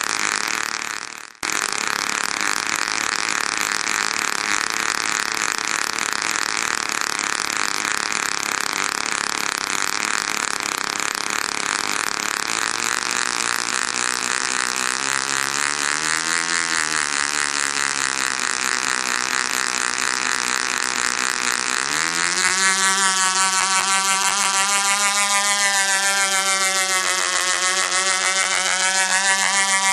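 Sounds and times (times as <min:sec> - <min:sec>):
model helicopter engine and rotor: 0:00.0 - 0:29.9.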